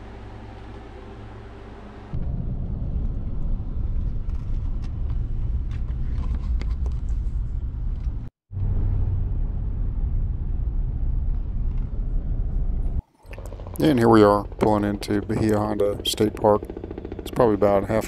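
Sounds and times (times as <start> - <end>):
vehicle driving rumble: 0.0 - 18.0.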